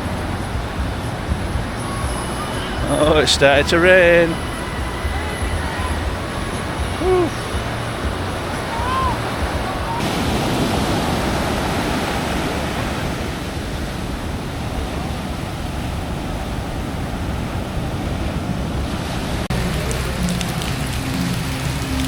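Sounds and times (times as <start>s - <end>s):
rain falling: 0.0s - 15.1s, 18.9s - 22.0s
sea surf: 0.0s - 22.0s
wind: 0.0s - 22.0s.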